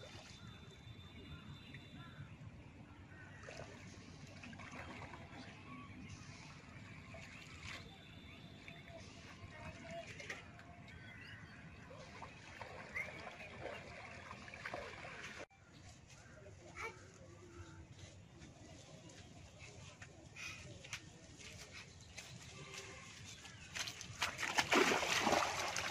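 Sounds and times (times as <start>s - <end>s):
water sloshing from wading: 0.0s - 15.5s, 20.6s - 25.9s
low outdoor background: 0.0s - 25.9s.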